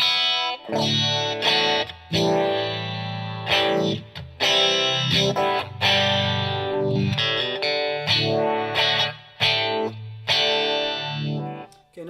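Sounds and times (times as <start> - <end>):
electric guitar strumming chords: 0.0 - 11.8.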